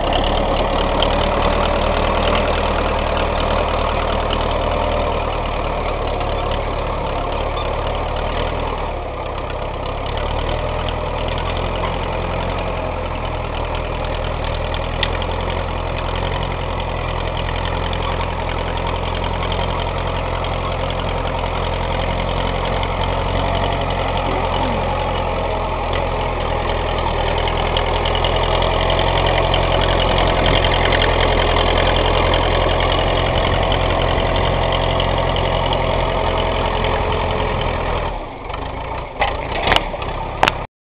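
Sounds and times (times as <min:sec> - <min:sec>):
crawler tractor engine running: 0:00.0 - 0:40.7.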